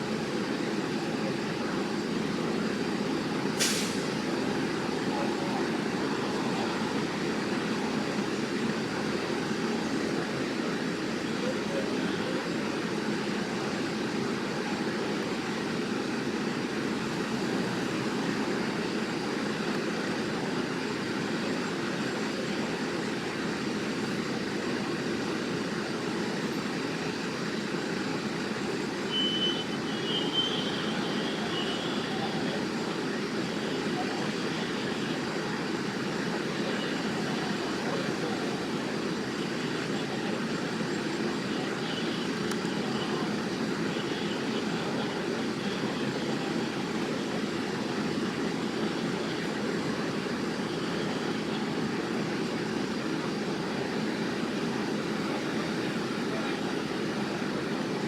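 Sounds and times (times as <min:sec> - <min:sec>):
vehicles rumbling: 0:00.0 - 0:58.0.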